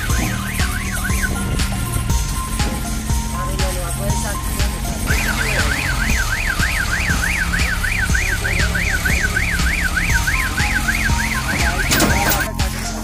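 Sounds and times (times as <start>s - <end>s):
truck engine running: 0.0s - 13.0s
warbling reversing alarm: 0.0s - 13.0s.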